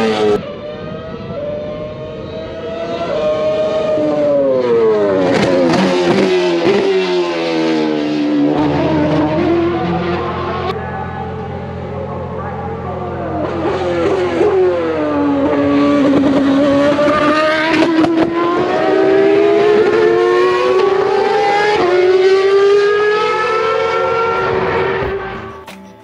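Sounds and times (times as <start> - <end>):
racing car high-revving engine: 0.0 - 26.0.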